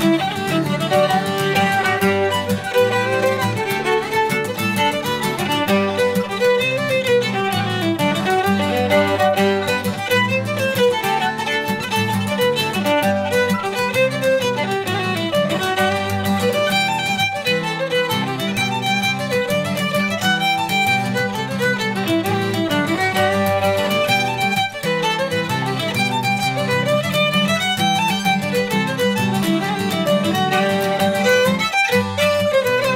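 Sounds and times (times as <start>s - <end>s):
lively fiddle tune: 0.0s - 32.9s
strummed acoustic guitar chords: 0.0s - 32.9s.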